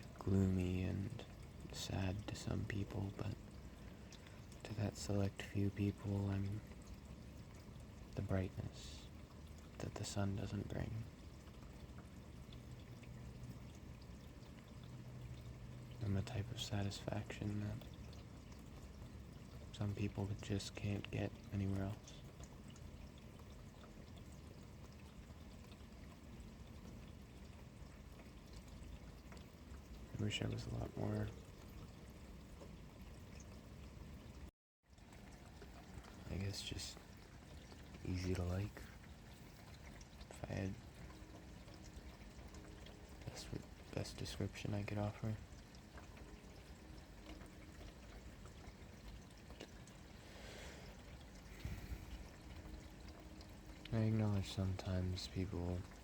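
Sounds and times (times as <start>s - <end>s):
steady rain patter: 0.0s - 56.0s
water drips: 0.0s - 56.0s.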